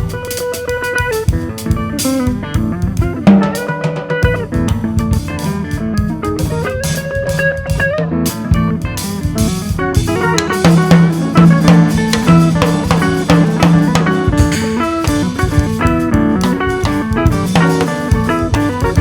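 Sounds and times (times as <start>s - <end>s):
drum kit hits: 0.0s - 19.0s
twelve-string guitar: 0.0s - 19.0s.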